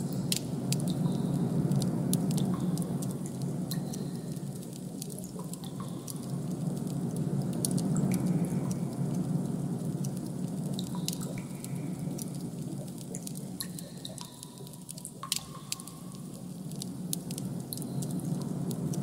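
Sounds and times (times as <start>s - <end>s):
drip-like clicks: 0.0s - 19.0s
steady low hum: 0.0s - 19.0s.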